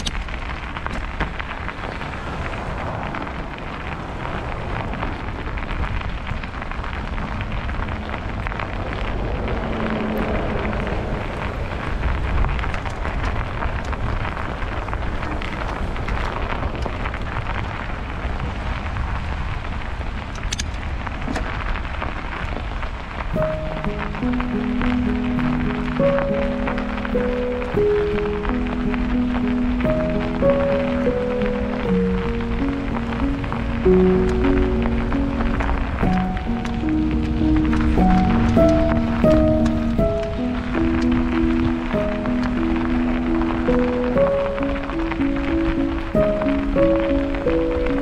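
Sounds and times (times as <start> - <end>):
bicycle tyres on snow: 0.0 - 48.0
wind rumbling on microphone: 0.0 - 48.0.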